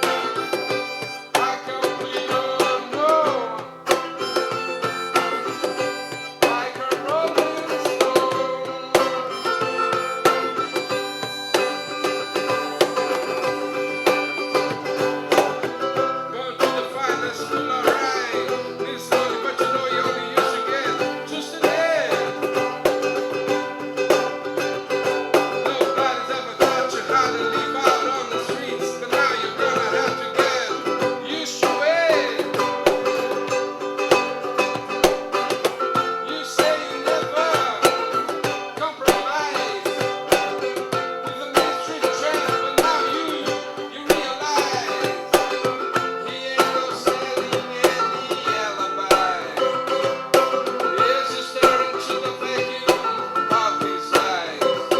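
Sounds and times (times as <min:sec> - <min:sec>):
hand percussion: 0:00.0 - 0:54.9
plucked strings: 0:00.0 - 0:54.9
strummed acoustic guitar: 0:00.0 - 0:54.9.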